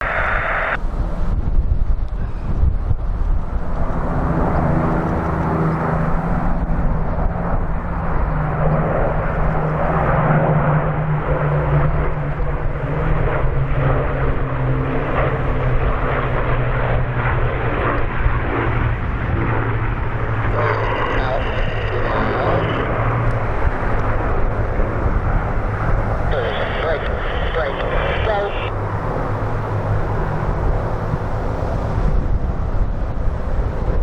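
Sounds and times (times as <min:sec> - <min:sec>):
propeller aircraft engines droning: 0:00.0 - 0:34.0.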